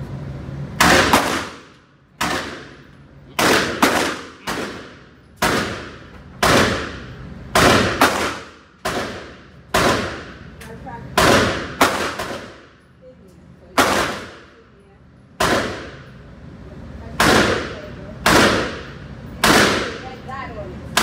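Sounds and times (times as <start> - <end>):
rifle shots echoing indoors: 0.8 - 12.9, 13.8 - 14.7, 15.4 - 16.2, 17.1 - 20.2.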